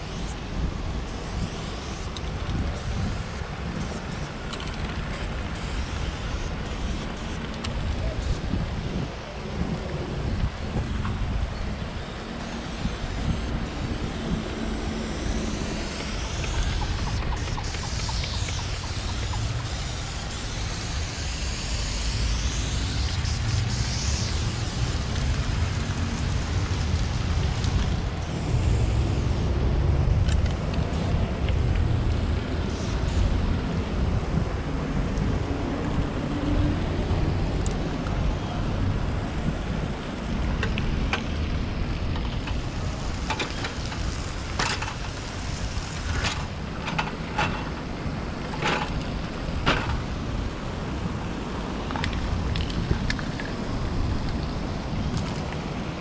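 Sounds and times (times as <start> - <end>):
low rumble of street noise: 0.0 - 56.0.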